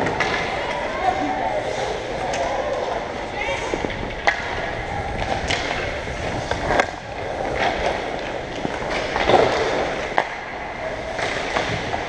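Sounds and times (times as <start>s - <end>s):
skate blades scraping on ice: 1.6s - 12.0s.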